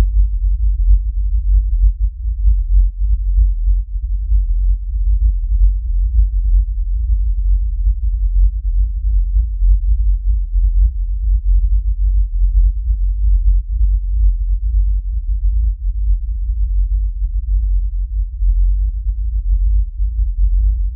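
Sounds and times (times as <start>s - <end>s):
deep fluttering rumble: 0.0s - 20.9s.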